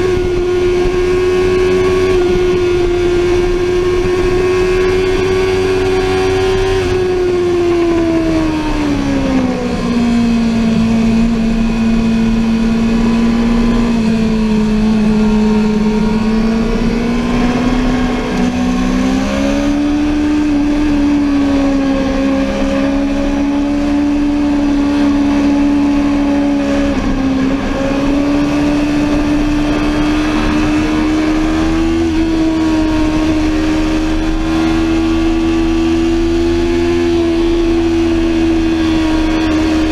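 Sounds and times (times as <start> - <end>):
motorcycle engine on board: 0.0 - 39.9.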